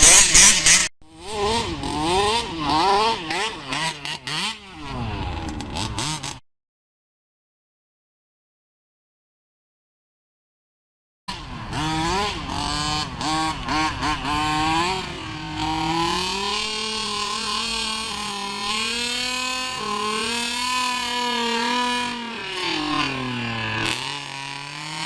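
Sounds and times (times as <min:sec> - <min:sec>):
two-stroke engine revving: 0:00.0 - 0:06.4, 0:11.3 - 0:25.0.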